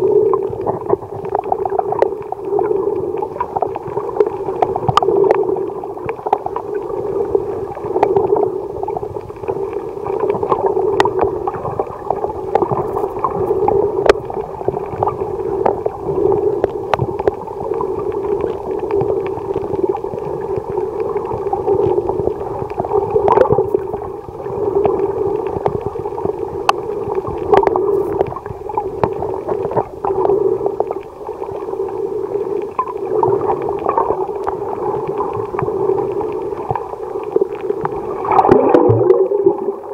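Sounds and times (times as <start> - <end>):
muffled underwater drone: 0.0 - 39.9
sharp clicks and crackles: 0.2 - 6.8, 7.8 - 24.1, 24.8 - 31.1, 32.6 - 39.7.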